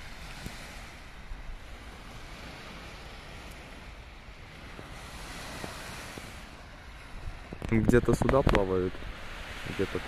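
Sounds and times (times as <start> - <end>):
small waves washing on shore: 0.0 - 10.0
wind rumbling on microphone: 0.0 - 10.0.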